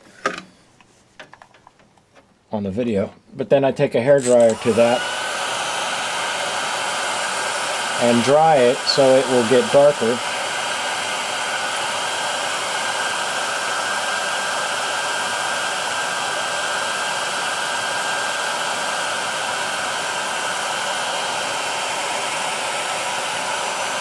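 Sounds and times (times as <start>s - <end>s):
hair dryer blowing air: 4.2s - 24.0s.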